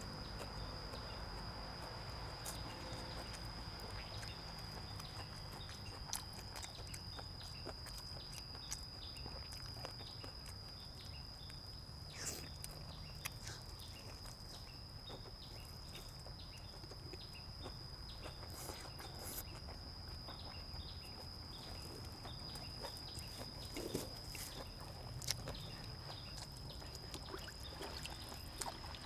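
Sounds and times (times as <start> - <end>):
person chewing food: 0.2 - 29.0.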